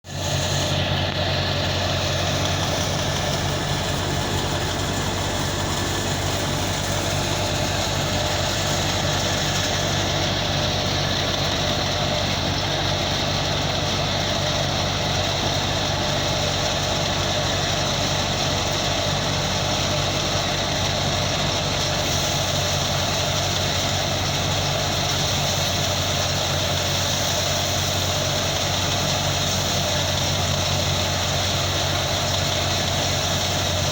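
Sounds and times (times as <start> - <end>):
thresher engine drone and whirr: 0.0 - 33.9.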